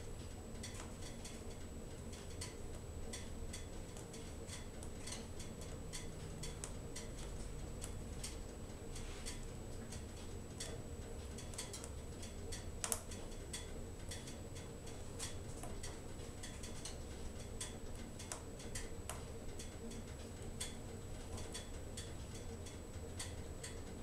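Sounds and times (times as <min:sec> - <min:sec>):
low rumble of stove: 0:00.0 - 0:24.0.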